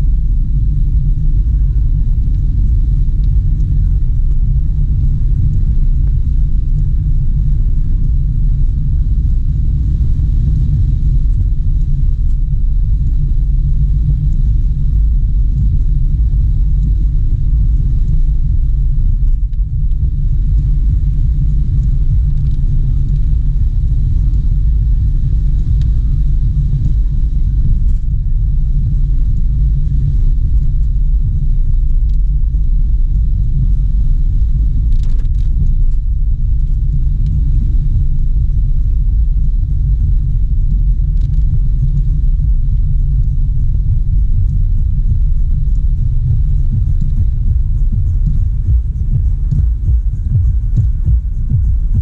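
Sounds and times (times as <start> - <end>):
car driving low rumble: 0.0 - 52.0.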